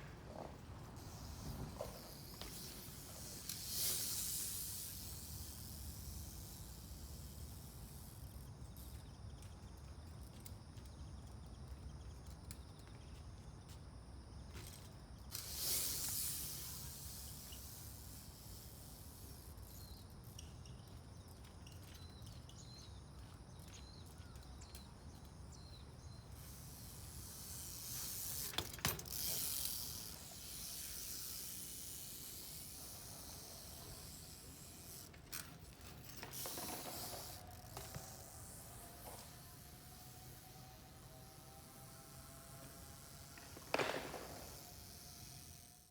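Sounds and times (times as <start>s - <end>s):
steady background hiss: 0.0s - 9.5s, 13.8s - 21.8s, 24.3s - 45.9s
trials bike being ridden: 0.0s - 45.9s.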